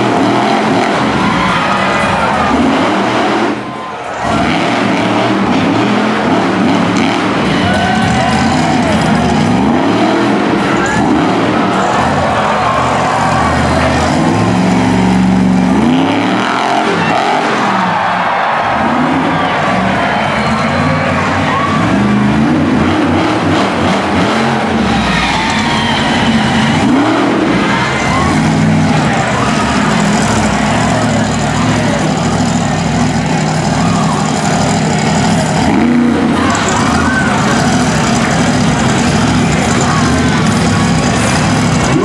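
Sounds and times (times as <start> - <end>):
monster truck engine running: 0.0 - 42.0.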